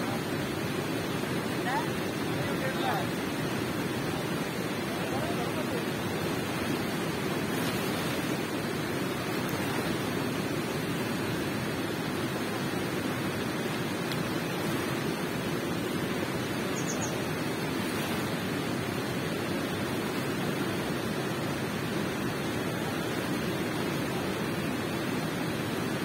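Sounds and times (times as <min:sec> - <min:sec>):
water flowing in a cave: 0:00.0 - 0:26.0.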